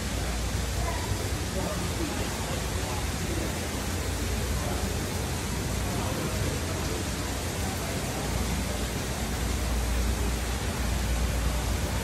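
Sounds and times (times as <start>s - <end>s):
steady rushing water: 0.0s - 12.0s.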